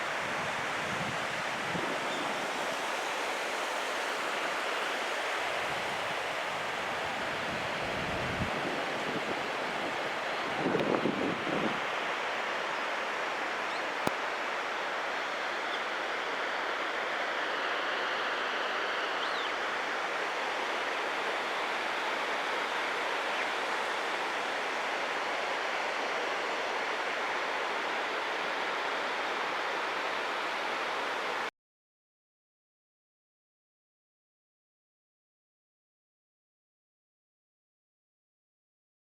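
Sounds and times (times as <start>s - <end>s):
waterfall rushing: 0.0s - 31.5s.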